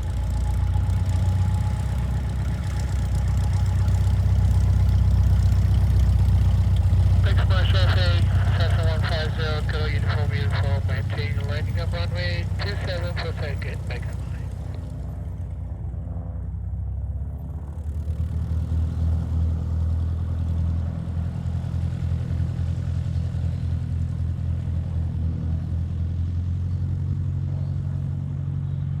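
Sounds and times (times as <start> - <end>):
aircraft engine droning: 0.0 - 23.3.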